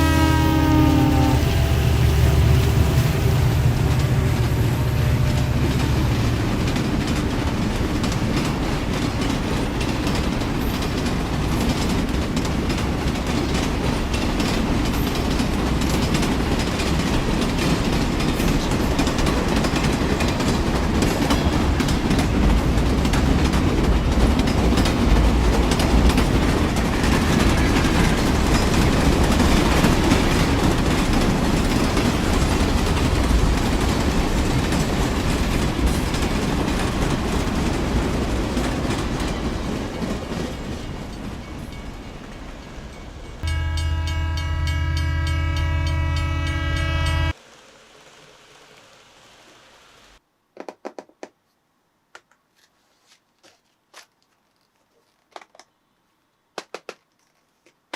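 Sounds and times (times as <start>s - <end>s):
train rumbling with wheel clatter: 0.0s - 47.5s.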